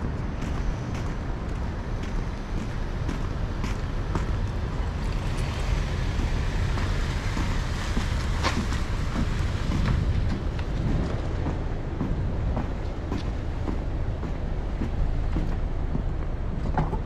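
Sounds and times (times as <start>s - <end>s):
car driving slowly: 0.0s - 17.0s
wind rumbling on microphone: 0.0s - 17.0s.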